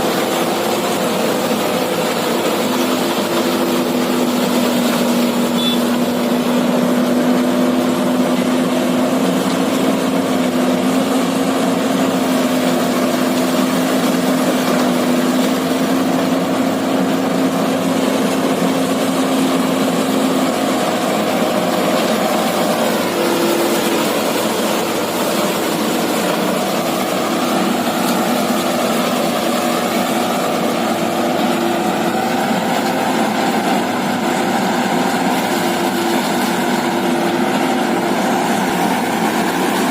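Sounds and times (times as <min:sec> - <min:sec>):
diesel farm machinery engines: 0:00.0 - 0:39.9.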